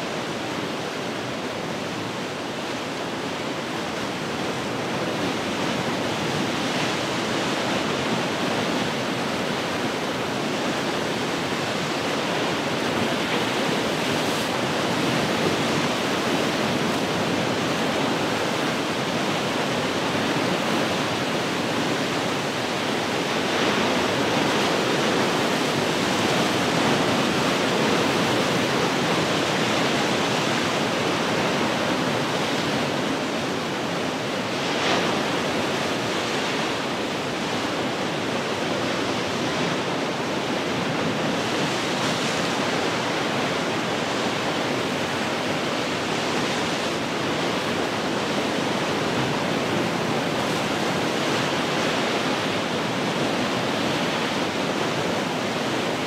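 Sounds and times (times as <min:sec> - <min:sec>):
ocean surf breaking on rocks: 0:00.2 - 0:56.0.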